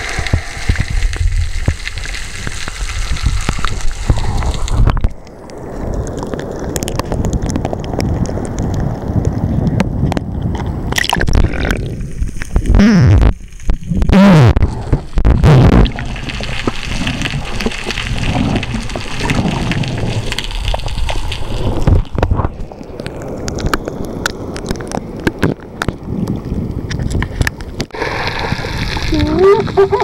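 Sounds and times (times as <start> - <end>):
water sloshing and bubbling: 0.0 - 30.0.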